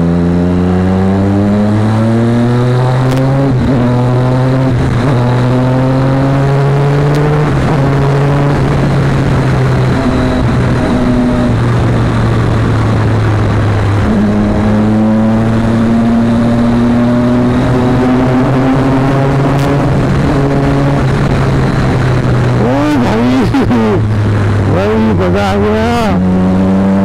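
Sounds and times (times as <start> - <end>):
motorcycle engine accelerating: 0.0 - 27.0
wind rushing noise: 0.6 - 27.0.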